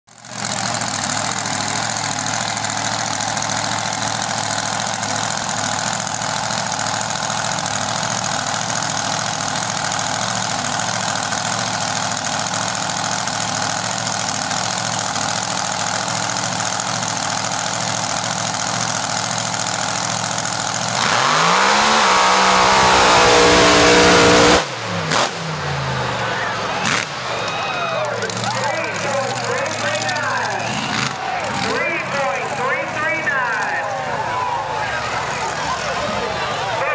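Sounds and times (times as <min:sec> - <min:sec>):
truck engine idling and revving: 0:00.1 - 0:36.9.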